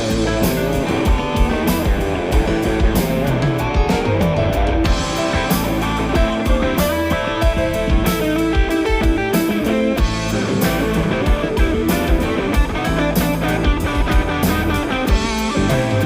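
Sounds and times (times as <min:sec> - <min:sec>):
bass guitar: 0:00.0 - 0:16.0
drum kit beat: 0:00.0 - 0:16.0
electric guitar: 0:00.0 - 0:16.0.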